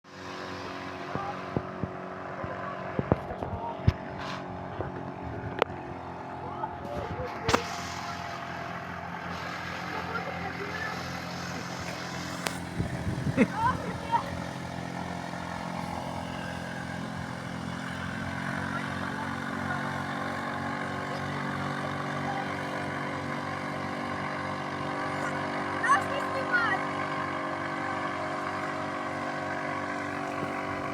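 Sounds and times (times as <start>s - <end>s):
outboard motor running: 0.0s - 30.9s.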